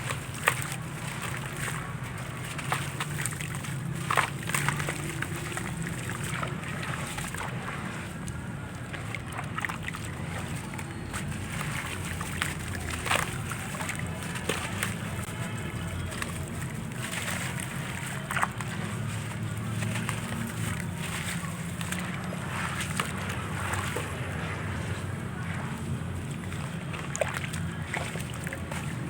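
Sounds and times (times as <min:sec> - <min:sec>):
crackles and crunchy clicks: 0:00.0 - 0:29.0
crumble pieces sloshing in water: 0:00.0 - 0:29.0.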